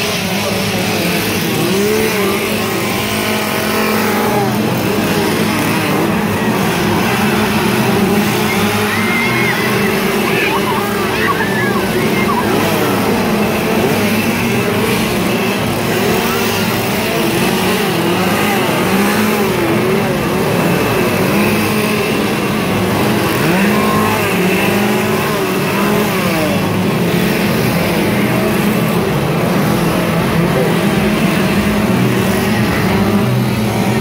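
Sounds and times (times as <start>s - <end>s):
chainsaws revving: 0.0s - 34.0s.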